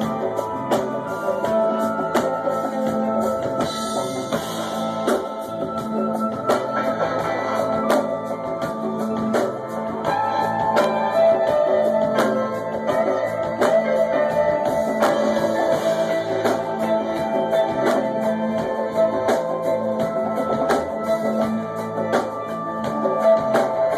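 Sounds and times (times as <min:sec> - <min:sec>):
drum kit beat: 0:00.0 - 0:23.9
electric bass: 0:00.0 - 0:23.9
guitar: 0:00.0 - 0:23.9
keyboard: 0:00.0 - 0:23.9.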